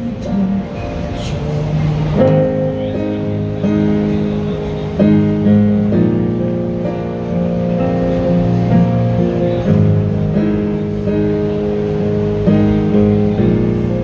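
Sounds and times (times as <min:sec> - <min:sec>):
guitar chords: 0:00.0 - 0:14.0
keyboard chords: 0:00.0 - 0:14.0.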